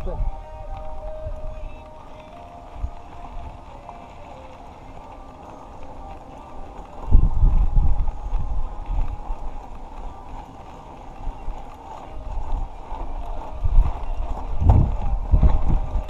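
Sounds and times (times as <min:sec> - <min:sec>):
bike rumbling and rattling: 0:00.0 - 0:16.0
wind buffeting microphone: 0:00.0 - 0:16.0.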